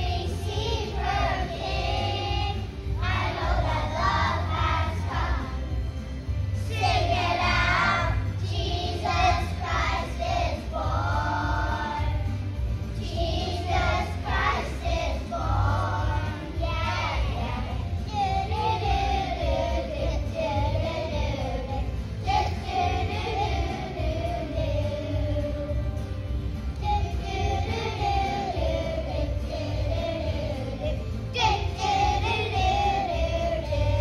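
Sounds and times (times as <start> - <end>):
children's choir singing: 0.0 - 34.0.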